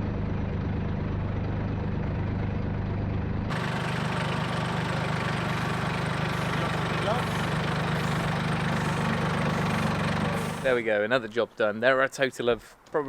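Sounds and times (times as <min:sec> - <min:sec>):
diesel engine running: 0:00.0 - 0:10.8.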